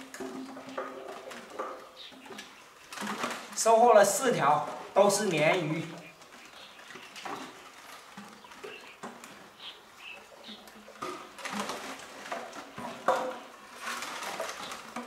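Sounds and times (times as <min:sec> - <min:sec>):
plastic bottles knocking and rattling: 0:00.0 - 0:15.0.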